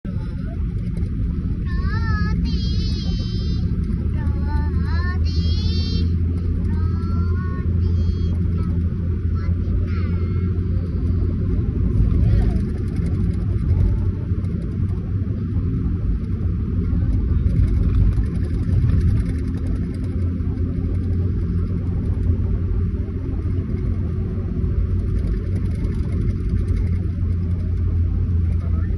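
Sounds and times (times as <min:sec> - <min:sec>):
vehicle low rumble: 0:00.0 - 0:28.9
road noise hiss: 0:00.1 - 0:28.9.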